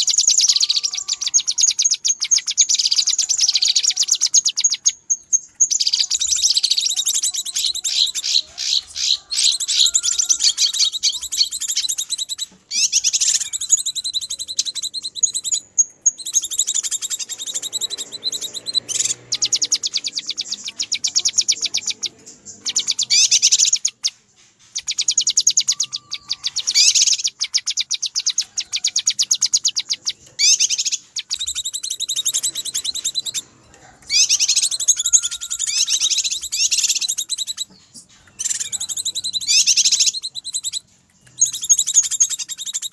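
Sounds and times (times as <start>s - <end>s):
bird fast high chattering: 0.0s - 42.9s.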